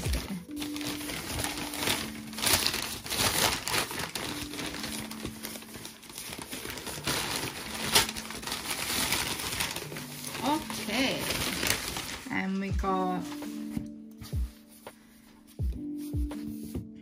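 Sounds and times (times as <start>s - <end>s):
paper wrapping crinkling: 0.0s - 13.8s.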